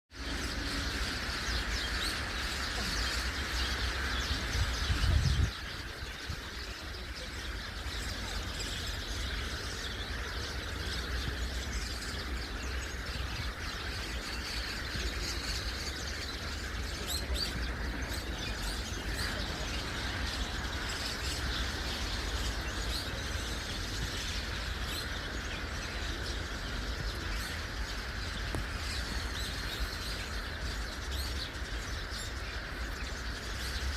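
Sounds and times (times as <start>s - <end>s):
flock of birds chattering: 0.1s - 33.9s.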